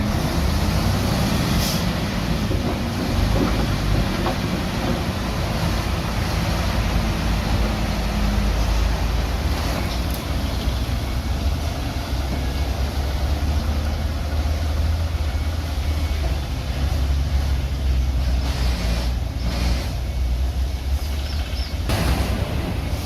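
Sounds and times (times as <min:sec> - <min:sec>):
heavy diesel engine rumbling: 0:00.0 - 0:23.0.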